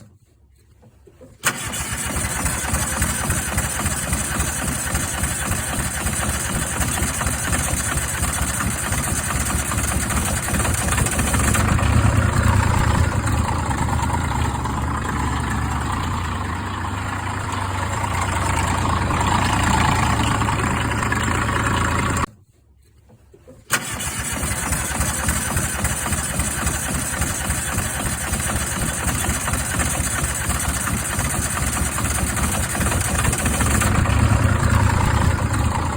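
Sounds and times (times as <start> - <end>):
diesel engine running: 1.4 - 22.3, 23.7 - 35.9.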